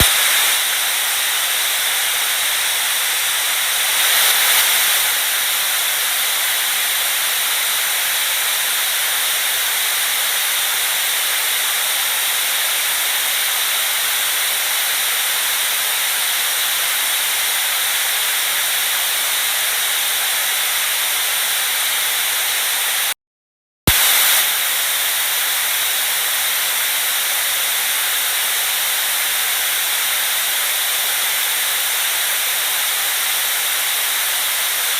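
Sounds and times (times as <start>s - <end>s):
white noise hiss: 0.0s - 23.1s, 23.9s - 34.9s.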